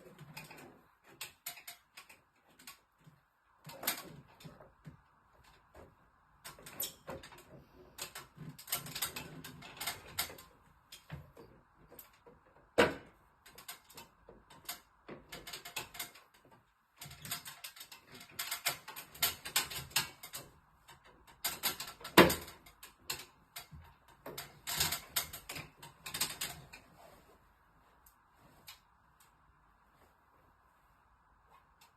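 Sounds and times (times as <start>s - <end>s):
mechanical clicking and rattling: 0.0s - 27.2s.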